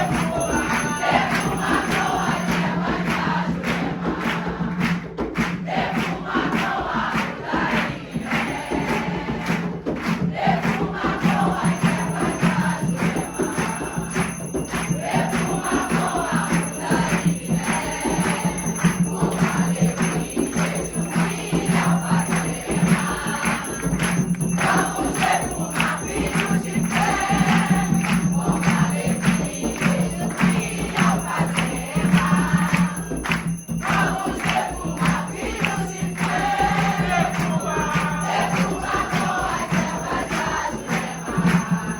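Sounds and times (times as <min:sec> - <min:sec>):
jingling bells: 0:00.0 - 0:03.5, 0:08.0 - 0:09.3, 0:10.8 - 0:41.9
group of people singing: 0:00.0 - 0:41.9
steady percussion: 0:00.0 - 0:41.9.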